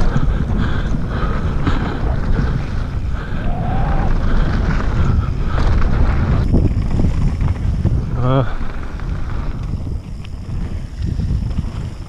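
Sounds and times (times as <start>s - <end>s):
bike knocking and rattling: 0.0s - 12.0s
wind rushing on microphone: 0.0s - 12.0s.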